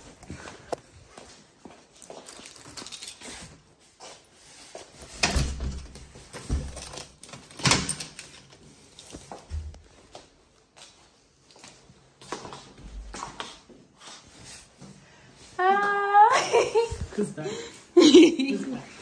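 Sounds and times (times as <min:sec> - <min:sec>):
clothing rustle: 0:00.0 - 0:17.4
shoes on tiled floor: 0:00.0 - 0:17.4.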